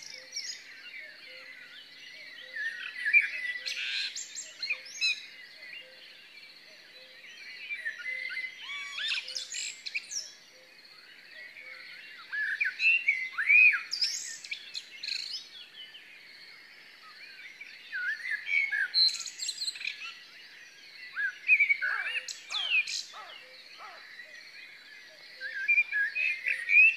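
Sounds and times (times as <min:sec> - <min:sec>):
songbirds singing and chirping: 0:00.0 - 0:26.9.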